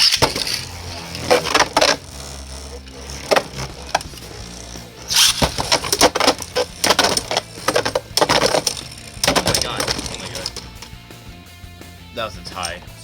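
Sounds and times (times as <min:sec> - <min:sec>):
plastic spinning tops clacking: 0:00.0 - 0:11.1, 0:12.5 - 0:12.9.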